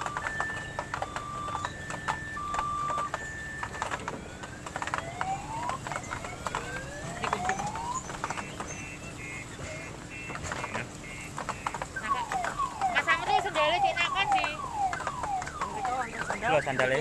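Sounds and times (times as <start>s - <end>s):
clicks: 0.0s - 17.0s
electronic two-tone siren: 0.0s - 17.0s.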